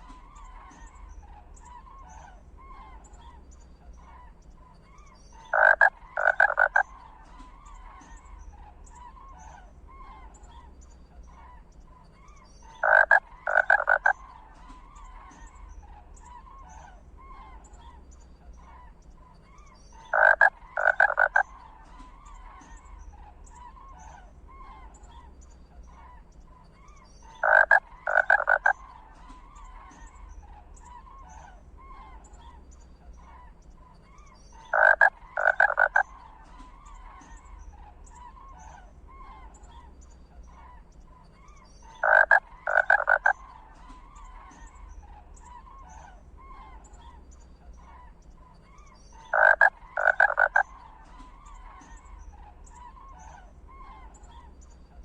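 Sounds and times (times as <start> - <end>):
croaking rattling animal calls: 0.0 - 55.0
faint chirps chorus: 0.0 - 55.0.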